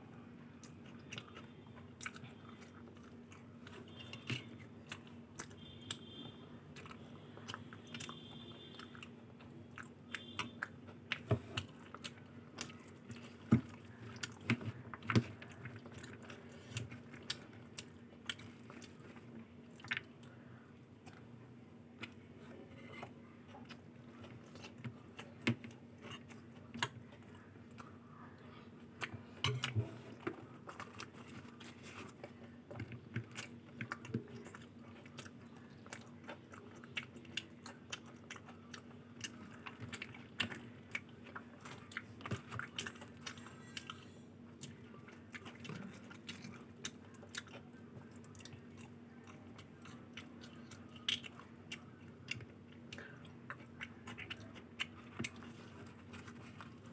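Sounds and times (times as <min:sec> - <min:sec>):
faint steady hum: 0:00.0 - 0:56.9
person chewing food: 0:00.6 - 0:56.9.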